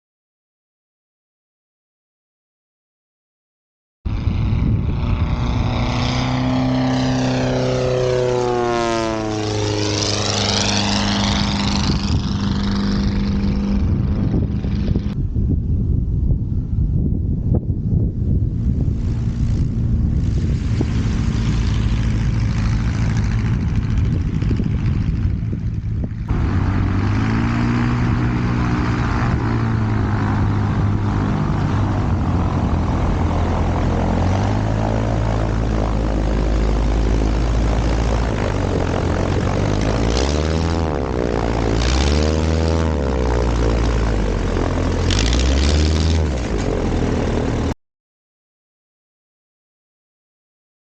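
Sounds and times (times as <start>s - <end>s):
wind noise: 4.1s - 47.7s
light aircraft engine droning: 4.1s - 47.8s.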